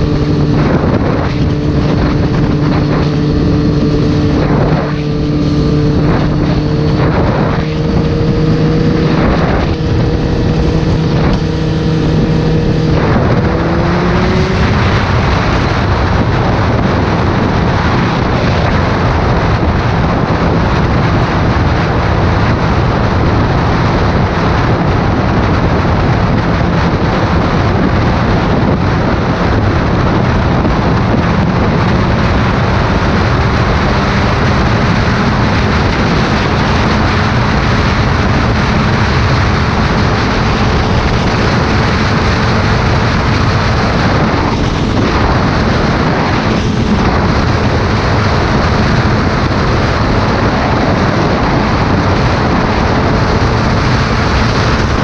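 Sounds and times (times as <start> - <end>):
motorcycle engine humming: 0.0 - 55.0
wind rushing over microphone: 0.0 - 55.0.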